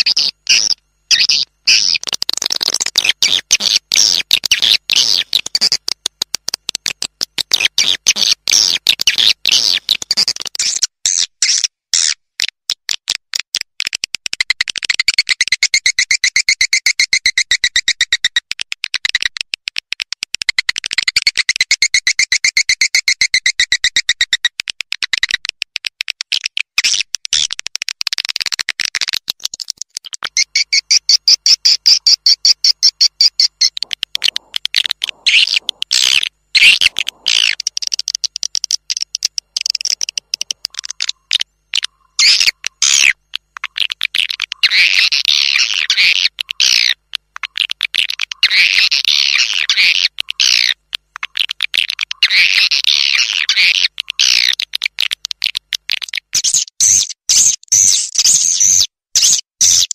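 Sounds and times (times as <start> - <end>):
bird calls of dry clicks and chirps: 0.0 - 59.9.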